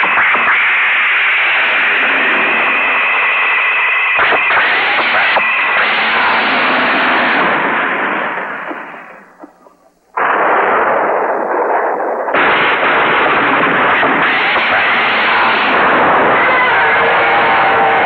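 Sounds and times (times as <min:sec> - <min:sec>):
explosion-like battle effects: 0:00.0 - 0:18.0.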